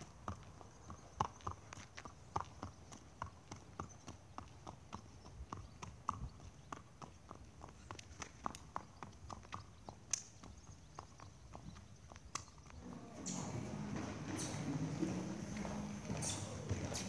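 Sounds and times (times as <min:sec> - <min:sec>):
hooves clip-clopping on pavement: 0:00.0 - 0:17.0.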